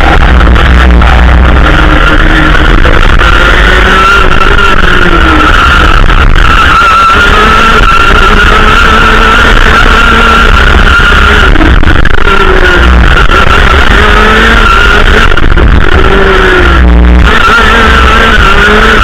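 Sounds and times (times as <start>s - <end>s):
kart engine running hard: 0.0s - 19.0s.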